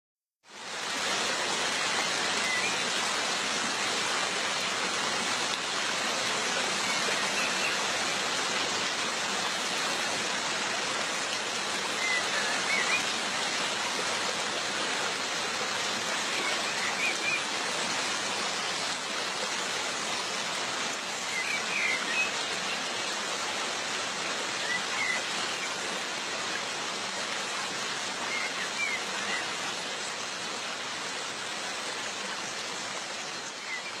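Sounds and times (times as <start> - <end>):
waterfall rushing: 0.5 - 34.0.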